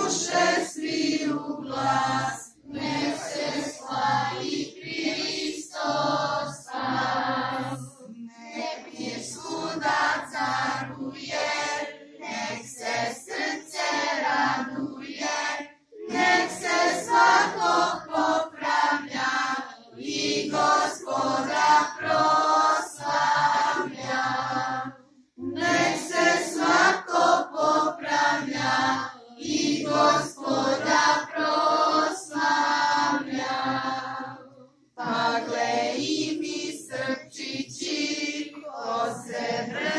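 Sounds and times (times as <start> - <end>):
children and women singing: 0.0 - 39.9.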